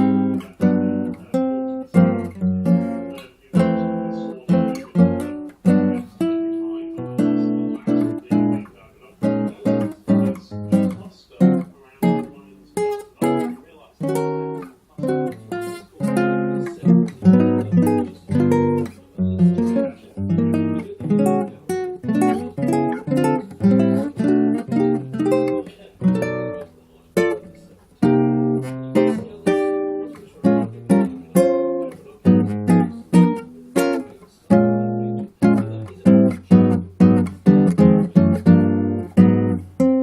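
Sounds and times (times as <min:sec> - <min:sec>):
acoustic guitar chords strummed: 0:00.0 - 0:40.0.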